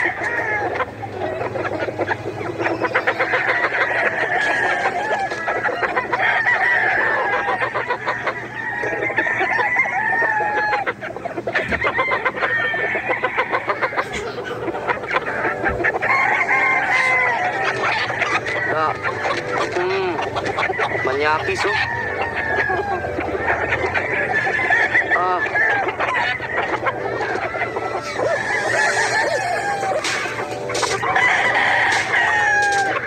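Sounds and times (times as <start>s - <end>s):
chickens clucking: 0.0s - 33.0s
roosters crowing: 0.0s - 33.0s.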